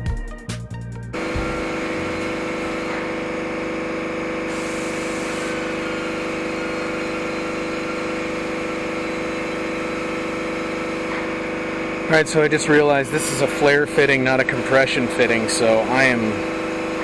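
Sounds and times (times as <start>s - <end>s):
machine whirring and humming: 1.1s - 17.0s.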